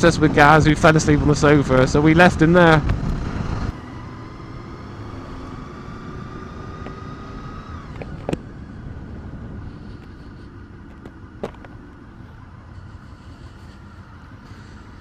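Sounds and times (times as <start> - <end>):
motorcycle engine running: 0.0 - 15.0
thin whine: 0.0 - 15.0
wind and road noise: 0.0 - 15.0.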